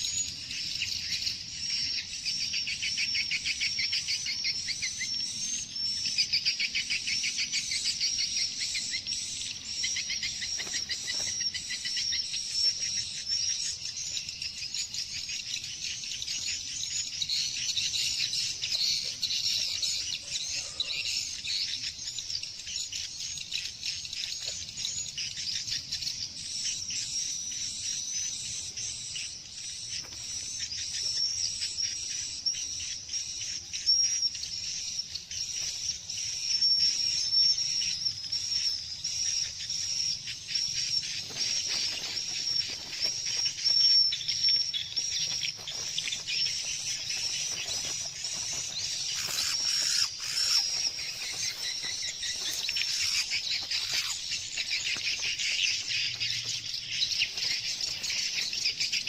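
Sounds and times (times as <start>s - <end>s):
small bird chirping: 0.0s - 59.0s.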